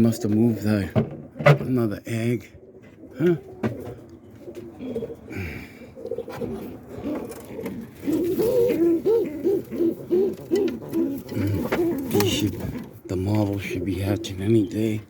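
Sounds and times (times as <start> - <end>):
pigeon cooing: 2.5 - 15.0.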